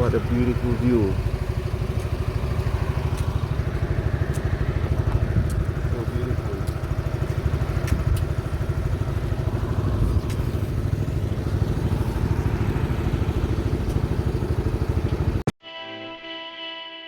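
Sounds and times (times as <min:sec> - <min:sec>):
scooter engine and road rumble: 0:00.0 - 0:15.5.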